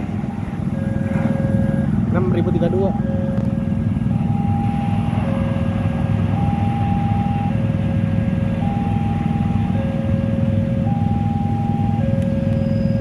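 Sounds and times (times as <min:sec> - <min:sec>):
steady low rumble: 0:00.0 - 0:13.0
two-tone crossing alarm: 0:00.1 - 0:13.0.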